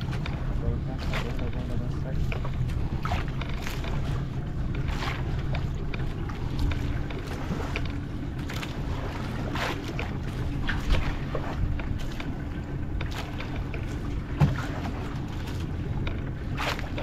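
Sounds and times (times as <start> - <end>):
boat engine humming: 0.0 - 17.0
water splashes: 0.0 - 17.0.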